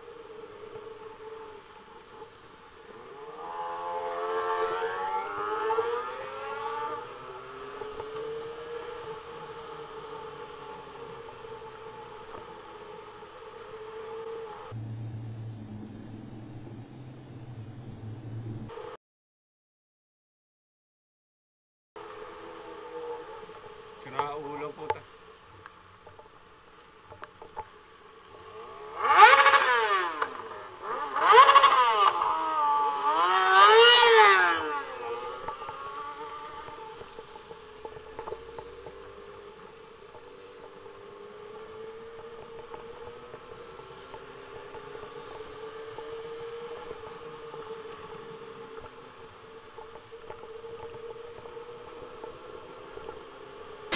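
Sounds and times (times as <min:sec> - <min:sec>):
motorcycle engine revving: 0:00.0 - 0:19.0, 0:22.0 - 0:25.1, 0:27.4 - 0:53.9
wind and road noise: 0:00.0 - 0:19.0, 0:22.0 - 0:53.9.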